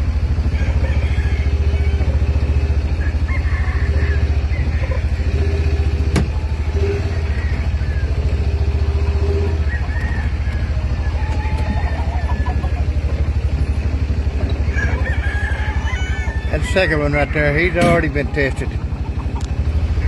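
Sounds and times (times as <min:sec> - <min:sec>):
low pulsing engine rumble: 0:00.0 - 0:20.0.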